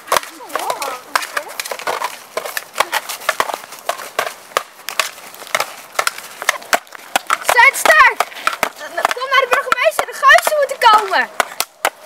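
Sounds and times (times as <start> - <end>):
wooden toy swords clacking: 0.1 - 12.0.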